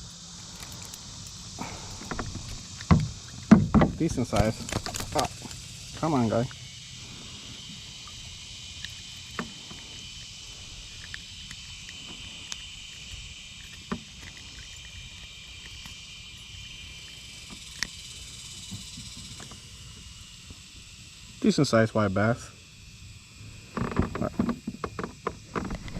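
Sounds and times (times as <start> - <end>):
insects hissing: 0.0 - 25.9.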